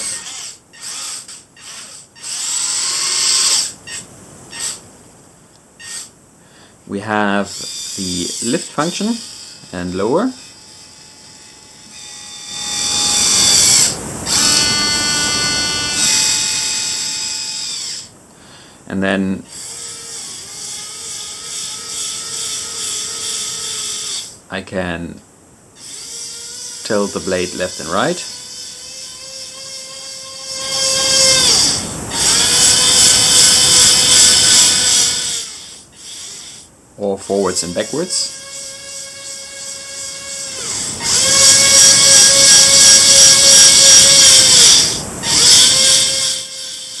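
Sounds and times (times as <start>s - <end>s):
small gear motors whining: 0.0s - 4.8s, 5.8s - 6.1s, 7.5s - 18.1s, 19.5s - 24.4s, 25.8s - 47.0s.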